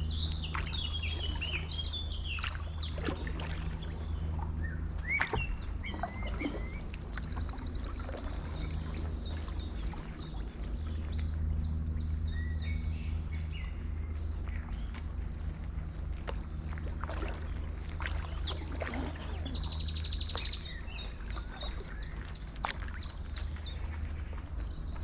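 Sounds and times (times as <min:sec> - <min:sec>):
songbirds chirping and trilling: 0:00.0 - 0:25.0
steady low rumble: 0:00.0 - 0:25.0.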